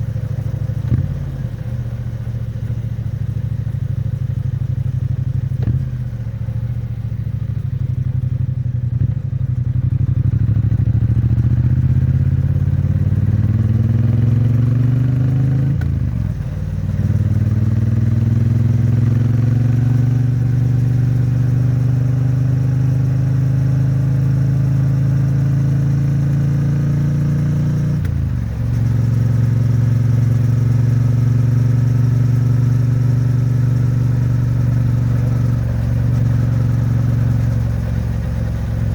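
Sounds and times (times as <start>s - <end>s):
motorcycle exhaust: 0.0s - 38.9s.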